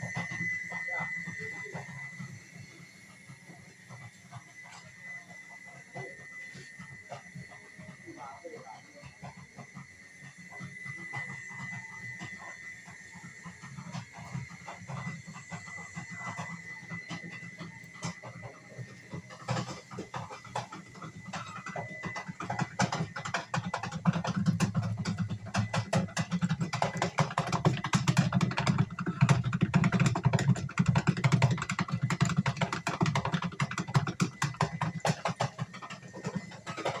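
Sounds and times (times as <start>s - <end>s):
steam crackling and bubbling in liquid: 0.0s - 37.0s.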